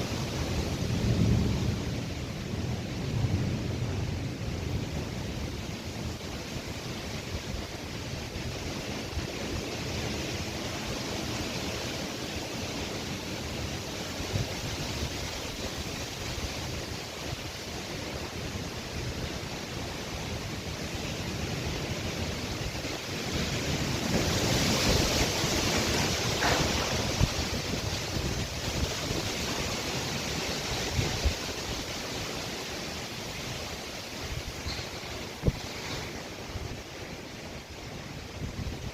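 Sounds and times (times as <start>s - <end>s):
gusty wind buffeting microphone: 0.0s - 38.9s.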